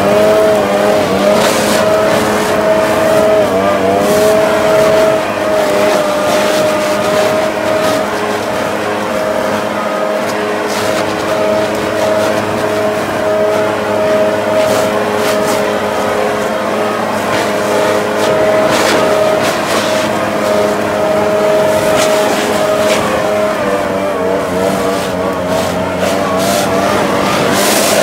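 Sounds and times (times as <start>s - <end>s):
leaf blower running: 0.0s - 28.0s.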